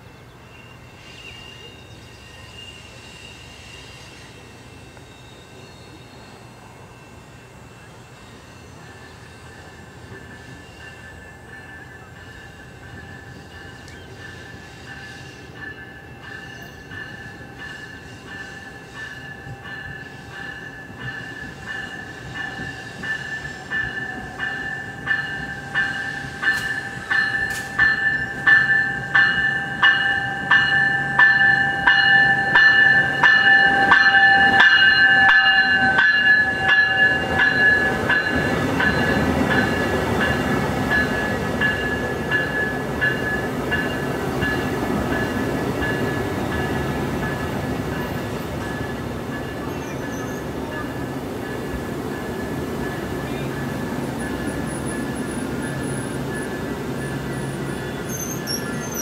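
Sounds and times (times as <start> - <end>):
low rumble of passing train: 0.0 - 59.0
locomotive bell ringing: 0.4 - 59.0.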